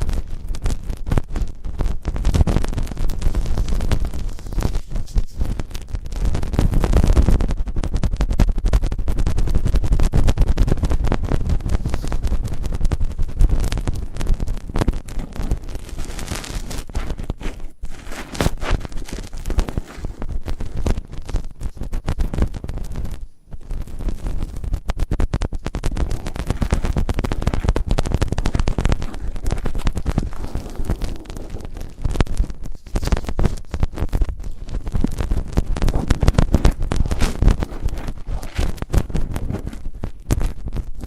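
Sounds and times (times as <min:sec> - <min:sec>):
scratching and rubbing on microphone: 0:00.0 - 0:41.0.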